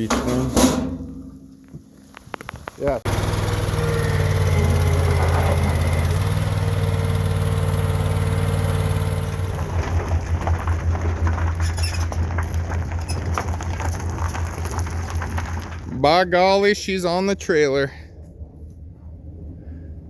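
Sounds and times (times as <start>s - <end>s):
engine running: 0.1s - 16.8s.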